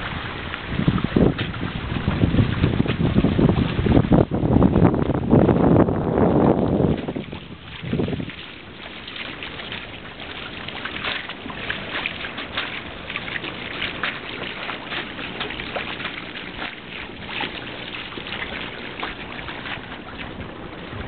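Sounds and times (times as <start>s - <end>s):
short water splashes: 0.0s - 21.0s
steady wind: 0.0s - 21.0s
water rushing along a hull: 0.0s - 21.0s.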